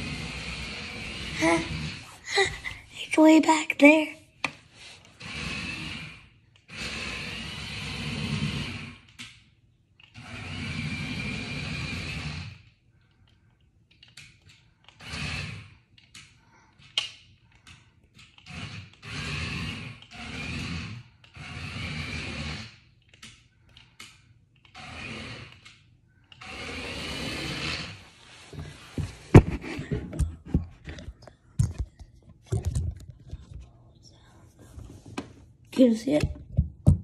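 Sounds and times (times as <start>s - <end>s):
toy car motor whirring: 0.0s - 31.8s.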